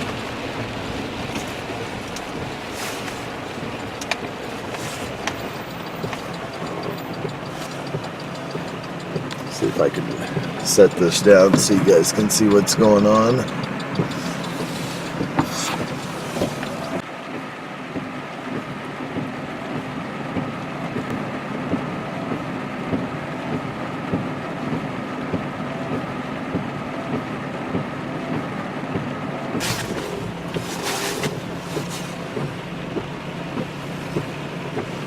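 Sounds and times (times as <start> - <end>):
engine drone: 0.0 - 35.0
road noise: 0.0 - 35.0.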